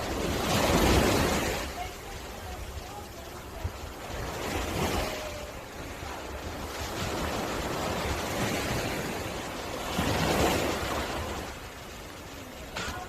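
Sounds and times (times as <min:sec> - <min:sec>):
sea waves breaking on beach: 0:00.0 - 0:13.0
wind rumble on microphone: 0:00.0 - 0:13.0.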